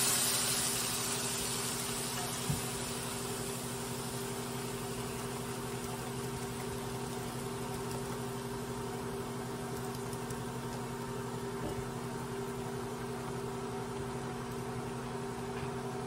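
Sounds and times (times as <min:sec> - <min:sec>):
frying sizzle in pan: 0:00.0 - 0:16.0
machine hum: 0:00.0 - 0:16.0.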